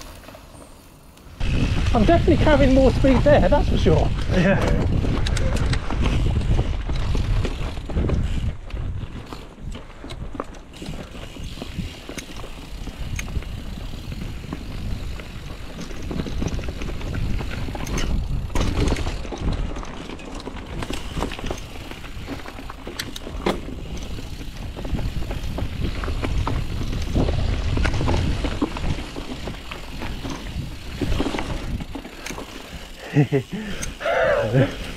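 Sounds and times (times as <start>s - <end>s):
bike clicking and rattling: 0.0s - 34.9s
bike tyres rumbling on dirt: 0.0s - 34.9s.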